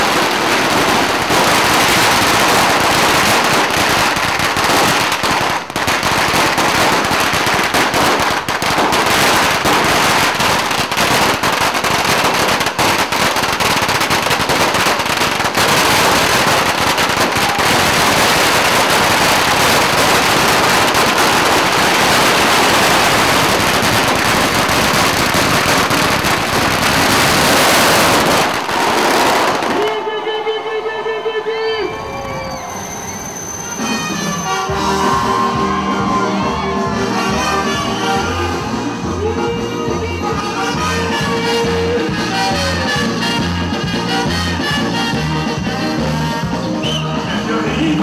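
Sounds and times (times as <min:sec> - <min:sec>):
firecrackers exploding: 0:00.0 - 0:30.3, 0:32.3 - 0:48.0.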